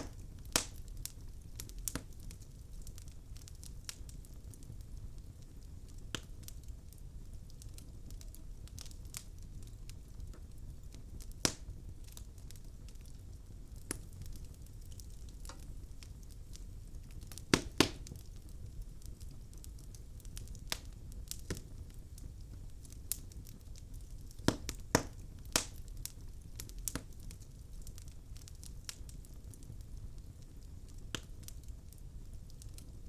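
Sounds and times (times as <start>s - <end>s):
fire rumble: 0.0s - 33.0s
logs popping and crackling: 0.0s - 33.0s.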